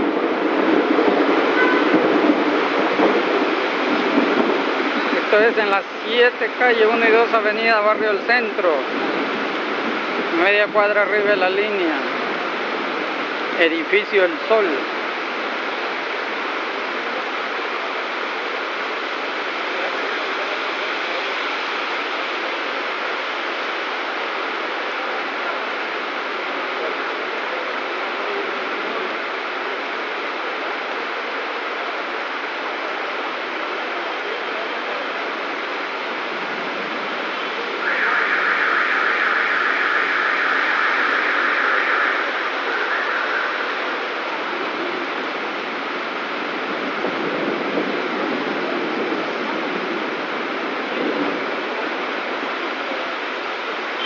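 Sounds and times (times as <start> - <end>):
heavy rain on flooded street: 0.0 - 54.0
rush of water: 0.0 - 54.0.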